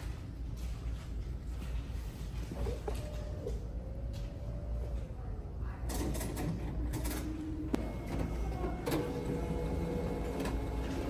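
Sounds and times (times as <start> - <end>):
copier mechanical hum: 0.0 - 11.0.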